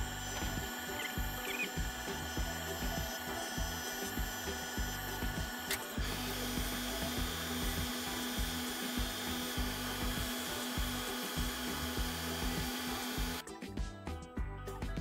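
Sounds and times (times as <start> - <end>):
motor hum of spinning wheel: 0.0 - 13.4
sole grinding against wheel: 0.0 - 13.4.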